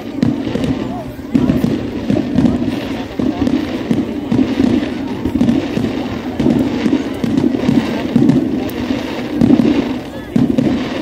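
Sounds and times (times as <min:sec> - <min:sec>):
fireworks booming: 0:00.0 - 0:11.0
fireworks crackle: 0:00.0 - 0:11.0.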